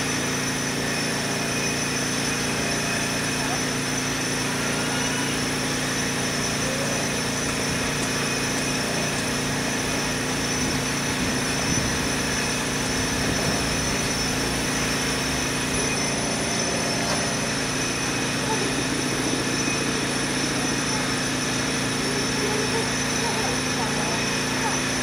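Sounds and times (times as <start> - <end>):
construction machinery droning: 0.0 - 25.0
high whines: 0.0 - 25.0.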